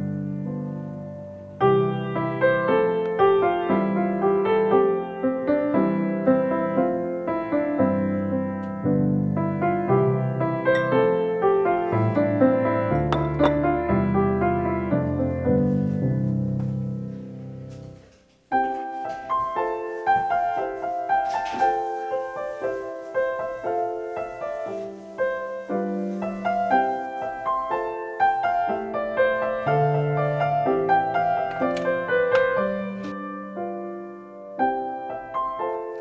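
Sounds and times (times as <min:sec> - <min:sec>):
gentle piano music: 0:00.0 - 0:36.0.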